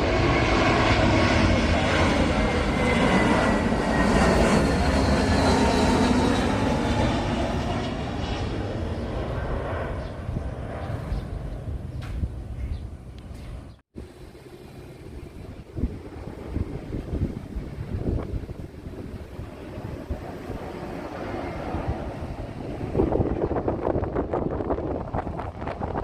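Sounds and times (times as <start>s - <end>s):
jet airliner passing: 0.0s - 26.0s.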